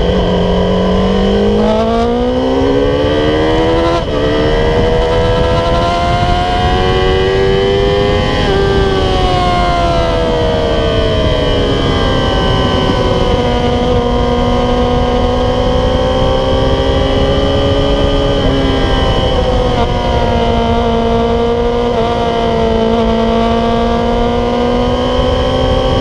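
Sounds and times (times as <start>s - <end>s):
motorcycle engine at high revs: 0.0s - 26.0s
wind rush: 0.0s - 26.0s.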